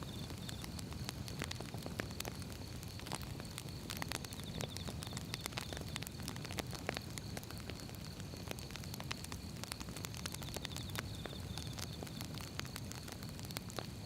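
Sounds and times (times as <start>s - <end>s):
firewood crackling and popping: 0.0s - 14.0s
low fire rumble: 0.0s - 14.0s.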